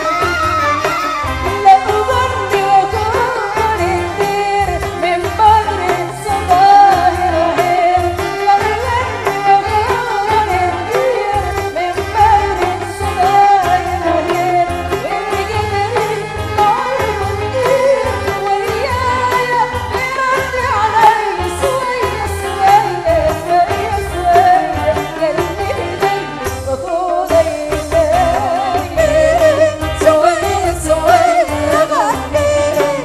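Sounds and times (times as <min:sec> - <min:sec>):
band playing live: 0:00.0 - 0:33.0.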